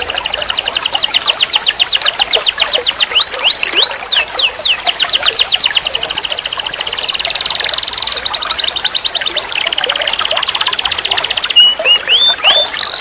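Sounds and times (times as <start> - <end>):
canary singing trilled song: 0.0 - 13.0.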